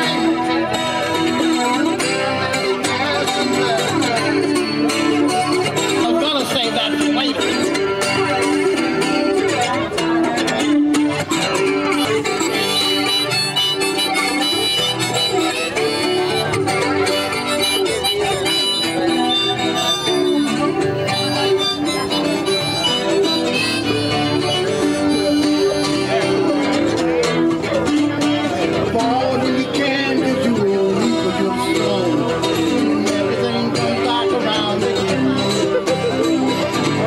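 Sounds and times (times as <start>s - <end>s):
harmonica: 0.0s - 37.0s
strummed acoustic guitar: 0.0s - 37.0s.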